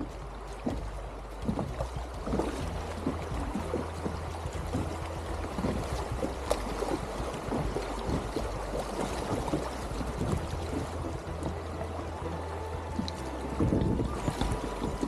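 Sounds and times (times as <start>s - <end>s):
low rumble: 0.0s - 15.0s
river water splashing and gurgling: 0.0s - 15.0s.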